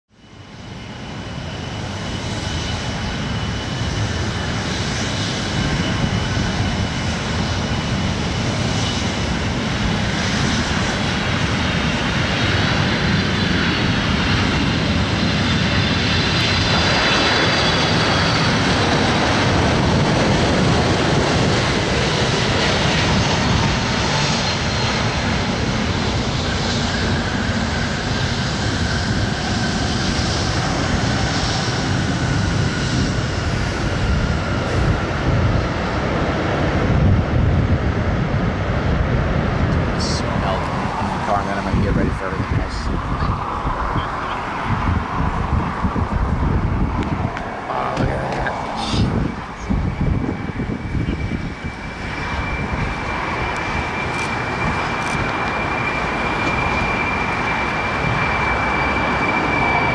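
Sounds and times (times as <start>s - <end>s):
jet engines rumbling with whine: 0.1s - 59.9s
jet touching down: 0.1s - 59.9s.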